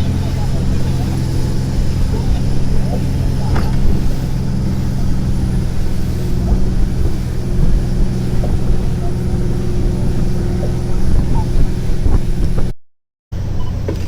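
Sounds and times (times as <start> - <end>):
wind and water rumble: 0.0 - 12.8
boat engine droning: 0.0 - 14.0.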